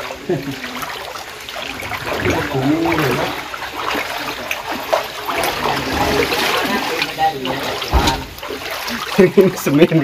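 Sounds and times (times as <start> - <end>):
water running and splashing: 0.0 - 10.0.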